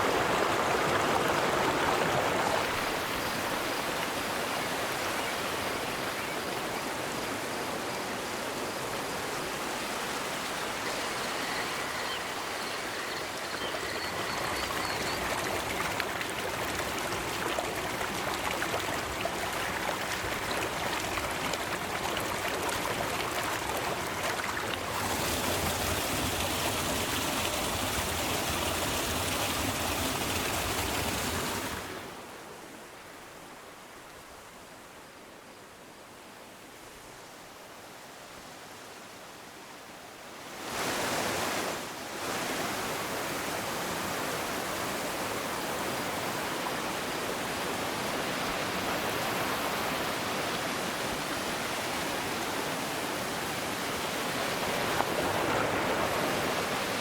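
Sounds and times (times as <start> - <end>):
river water rushing: 0.0 - 33.4, 40.5 - 57.0.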